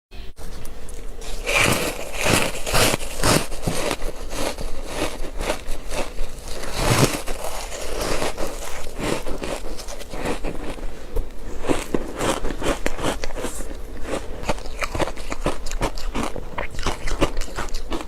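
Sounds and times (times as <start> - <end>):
chewing and crunching ice: 0.9 - 18.0.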